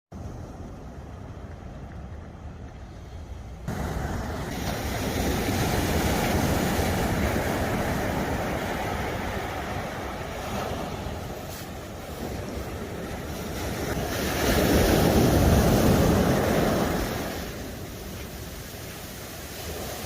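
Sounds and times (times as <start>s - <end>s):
low surf rumble: 0.1s - 20.0s
breaking waves hissing: 2.7s - 20.0s.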